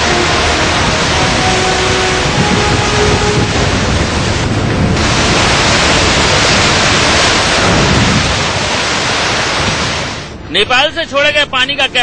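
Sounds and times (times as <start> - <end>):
floodwater rushing: 0.0 - 10.9.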